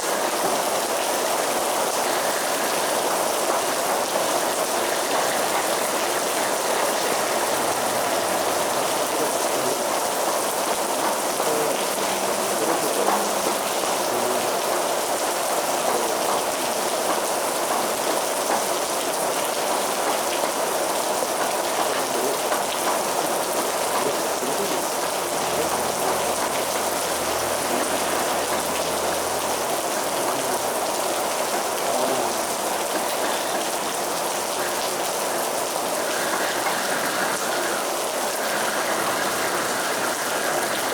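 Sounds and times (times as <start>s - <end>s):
heavy rain falling: 0.0s - 40.9s
raindrops pattering on surface: 0.0s - 40.9s.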